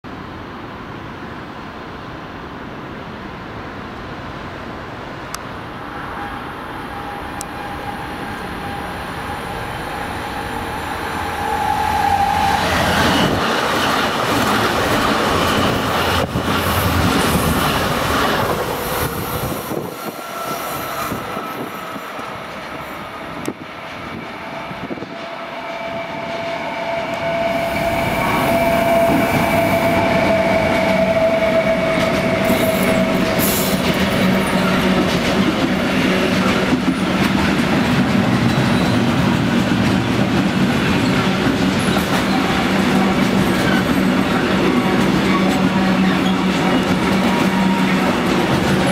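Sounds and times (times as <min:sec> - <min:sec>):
electric trains whining past: 0:00.1 - 0:48.9
electric locomotive whine: 0:00.3 - 0:48.9.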